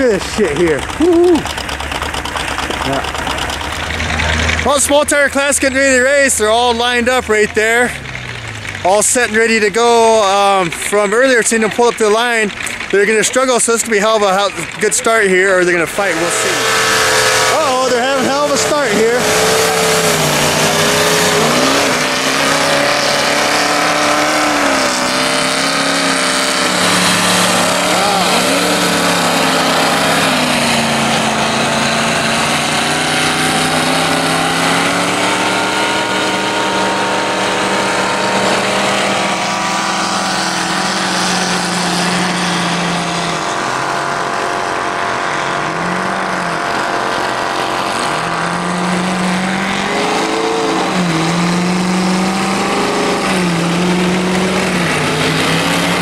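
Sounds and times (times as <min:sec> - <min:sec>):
off-road engines revving hard: 0:00.0 - 0:56.0.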